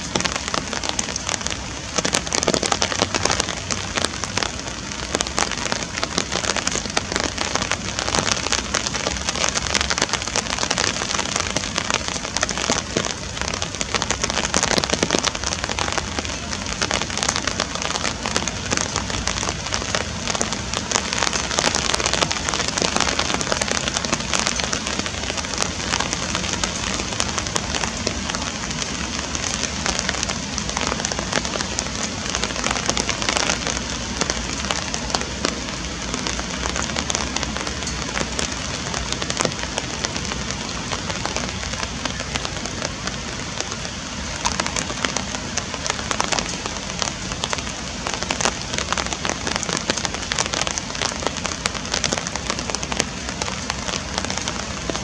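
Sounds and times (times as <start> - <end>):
rain falling on pond water: 0.0 - 55.0.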